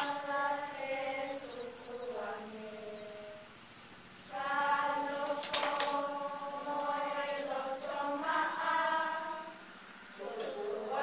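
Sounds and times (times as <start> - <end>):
children singing together: 0.0 - 3.4, 4.3 - 11.0.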